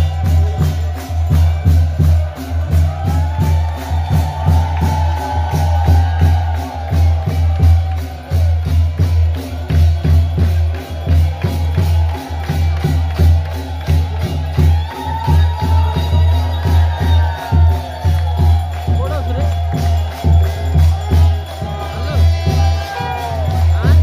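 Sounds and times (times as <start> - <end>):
drums beating fast: 0.0 - 24.0
jingling rattling percussion: 0.0 - 24.0.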